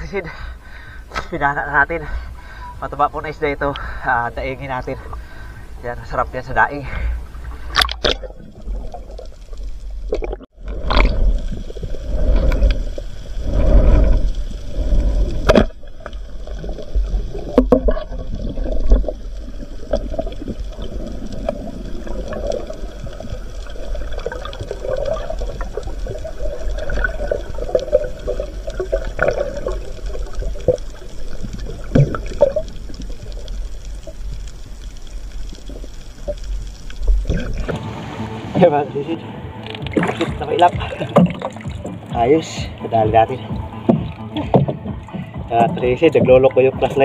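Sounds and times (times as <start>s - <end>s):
underwater rumble of moving water: 0.0s - 47.0s
water gurgles: 0.0s - 47.0s.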